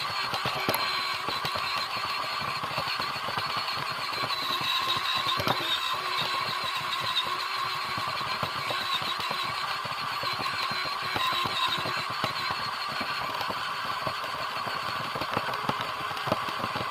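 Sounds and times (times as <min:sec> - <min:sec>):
small clicks and rattles: 0:00.0 - 0:16.9
toy car motor whining: 0:00.0 - 0:16.9.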